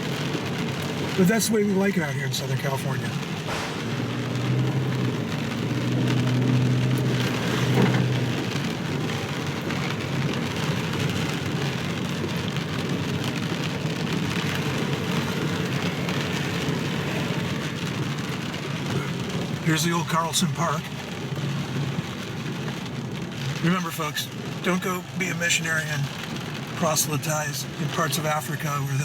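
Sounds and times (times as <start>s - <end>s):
rain on a car: 0.0s - 29.0s.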